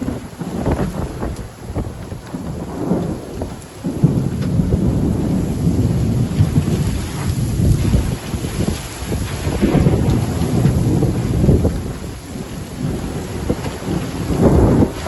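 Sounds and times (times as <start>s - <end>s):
heavy wind-driven rain: 0.0s - 15.0s
low rumble of thunder: 0.0s - 15.0s.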